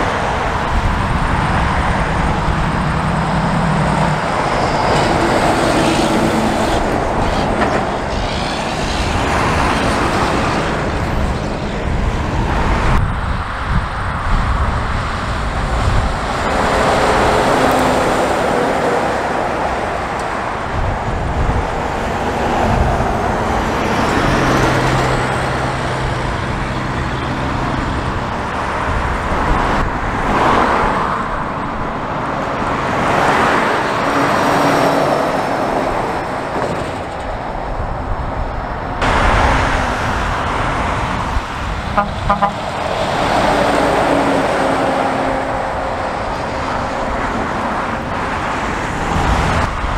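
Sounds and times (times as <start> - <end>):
heavy trucks driving past: 0.0 - 49.9
other traffic: 0.0 - 49.9.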